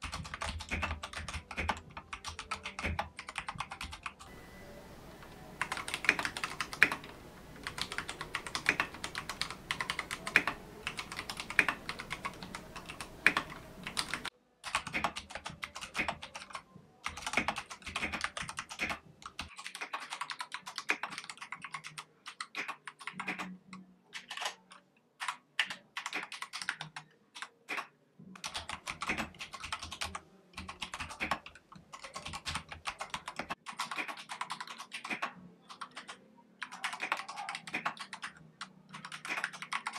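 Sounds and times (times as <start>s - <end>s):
mechanical keyboard clacks: 0.0s - 4.3s, 5.6s - 23.5s, 28.4s - 38.4s, 39.0s - 39.9s.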